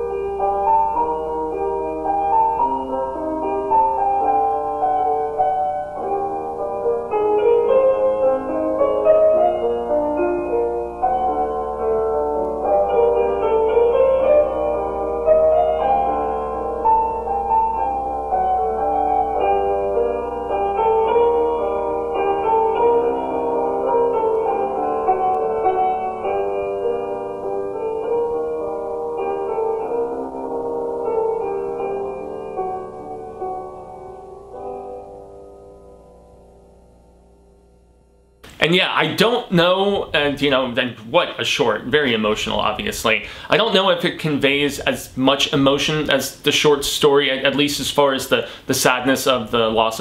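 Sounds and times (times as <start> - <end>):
solo piano: 0.0 - 50.0.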